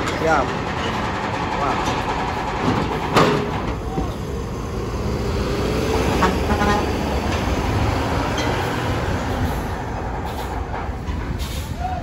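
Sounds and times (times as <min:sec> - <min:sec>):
bus engine running low: 0:00.0 - 0:12.0.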